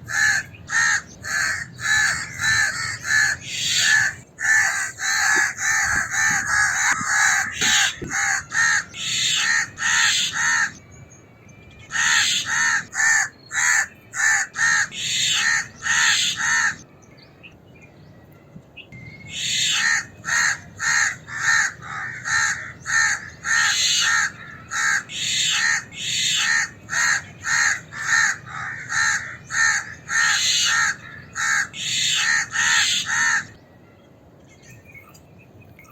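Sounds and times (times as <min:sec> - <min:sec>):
crow cawing harshly: 0:00.1 - 0:10.7, 0:11.9 - 0:16.8, 0:19.4 - 0:33.5.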